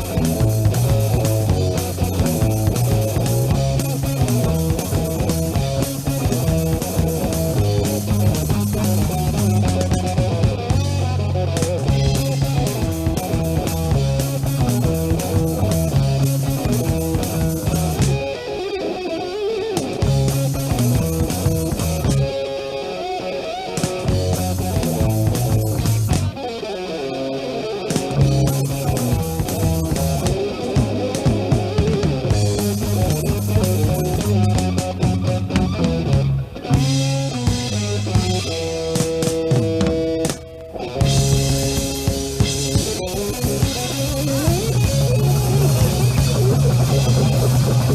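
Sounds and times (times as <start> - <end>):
drum kit: 0.0 - 22.6, 23.5 - 26.6, 27.8 - 47.9
electric guitar bending pitch: 0.0 - 47.9
instrumental rock band: 0.0 - 47.9.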